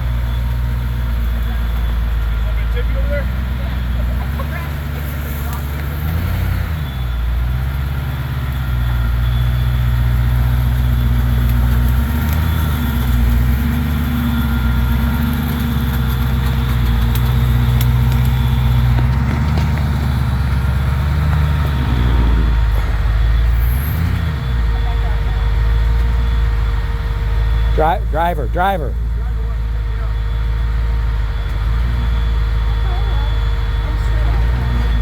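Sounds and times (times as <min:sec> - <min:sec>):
truck engine running at low revs: 0:00.0 - 0:35.0.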